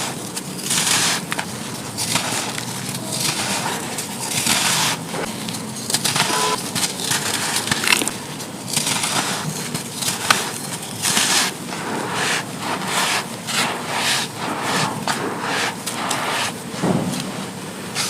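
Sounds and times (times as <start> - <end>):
dried sand crumbling and crunching: 0.0 - 16.8.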